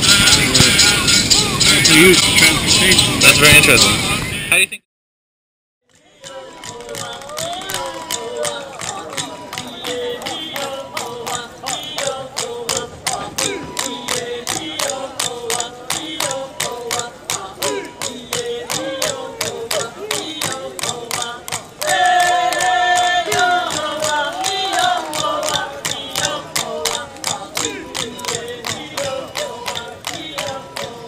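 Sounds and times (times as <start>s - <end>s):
quick percussion beat: 0.0s - 4.2s, 6.2s - 31.0s
chanted singing: 0.0s - 4.4s, 5.9s - 31.0s
voices holding long notes: 0.0s - 4.8s, 6.0s - 31.0s.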